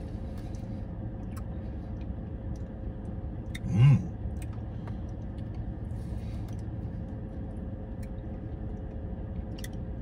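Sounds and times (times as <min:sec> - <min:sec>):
car cabin hum: 0:00.0 - 0:10.0.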